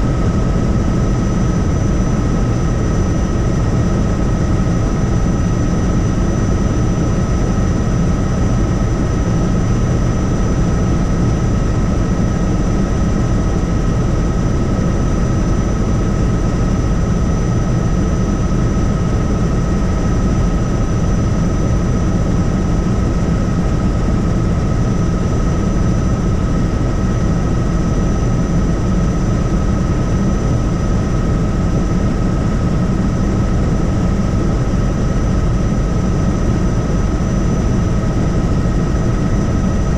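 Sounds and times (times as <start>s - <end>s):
helicopter engine and rotor rumble: 0.0s - 39.9s.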